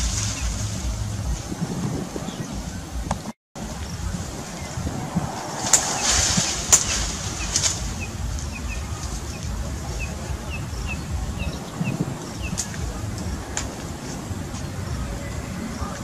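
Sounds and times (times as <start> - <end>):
bird chirping: 0.0 - 16.0
wind rumble on microphone: 0.0 - 16.0.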